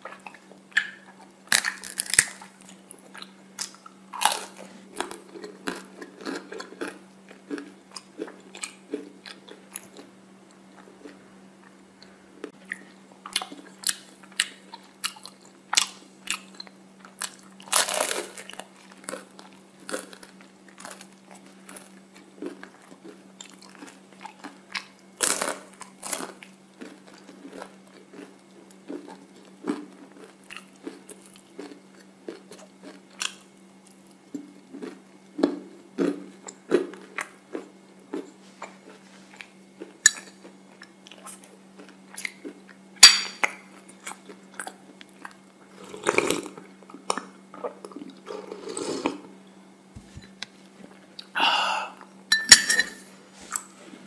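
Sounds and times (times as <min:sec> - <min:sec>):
chewing crisp waffle cone: 0:00.0 - 0:48.5.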